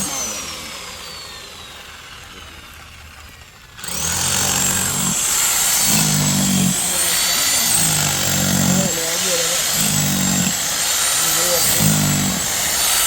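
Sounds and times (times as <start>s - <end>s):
electric power tool motor whine: 0.0s - 13.0s.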